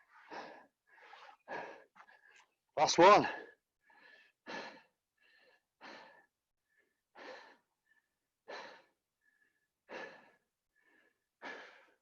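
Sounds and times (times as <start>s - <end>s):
heavy out-of-breath breathing: 0.0s - 2.6s, 3.3s - 12.0s.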